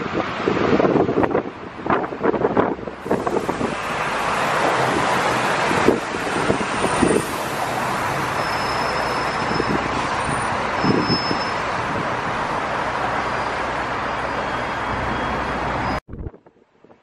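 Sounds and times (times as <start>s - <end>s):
traffic noise rushing: 0.0s - 16.0s.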